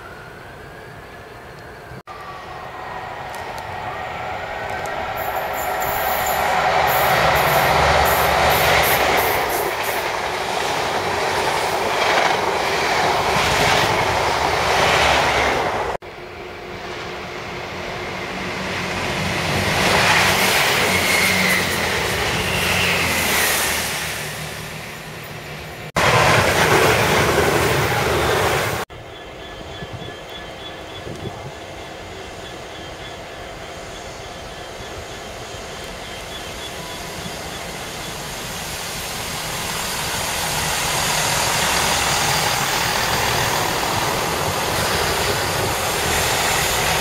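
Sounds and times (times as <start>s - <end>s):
diesel train passing: 0.0s - 47.0s
diesel train with high whine: 0.0s - 47.0s.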